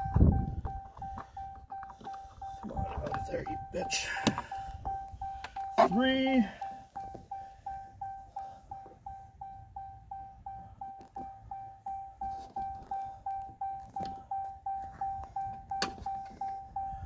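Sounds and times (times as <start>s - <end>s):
vehicle warning chime dinging: 0.0s - 17.0s.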